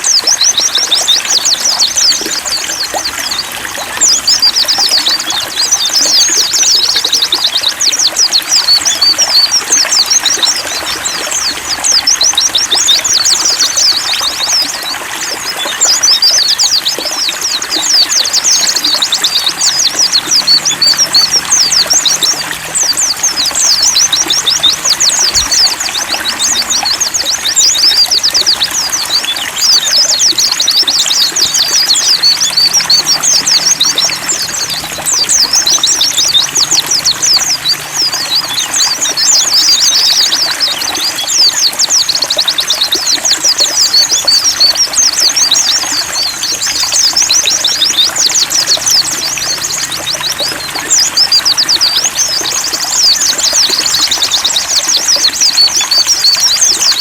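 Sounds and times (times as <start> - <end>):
birds twittering song: 0.0 - 57.0
trickle of running water: 0.0 - 57.0.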